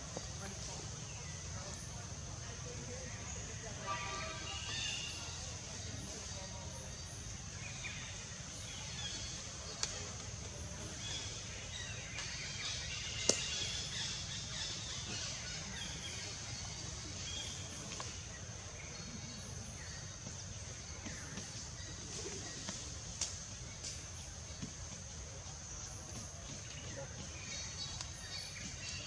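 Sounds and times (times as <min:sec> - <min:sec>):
constant high hiss: 0:00.0 - 0:29.0.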